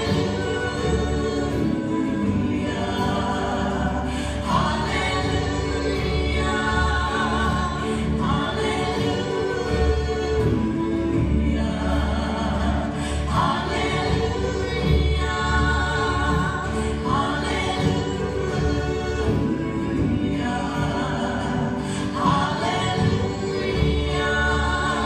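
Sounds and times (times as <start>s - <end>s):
band with bass piano and guitar: 0.0s - 25.0s
women singing in harmony: 0.0s - 25.0s.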